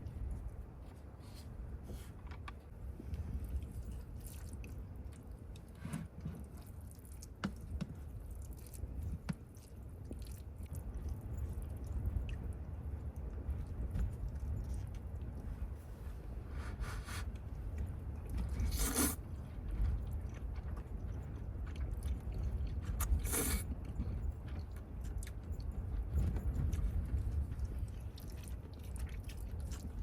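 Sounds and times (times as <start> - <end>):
wind buffeting a car: 0.0 - 4.2, 8.9 - 16.6, 17.3 - 30.0.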